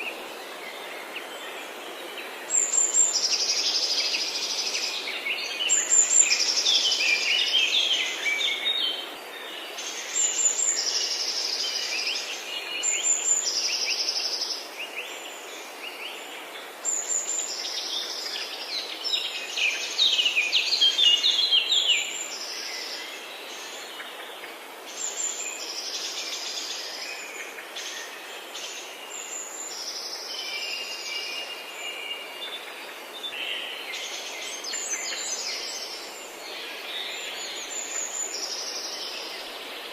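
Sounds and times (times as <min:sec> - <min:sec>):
forest birds singing: 0:00.0 - 0:39.9
steady background hiss: 0:00.0 - 0:39.9.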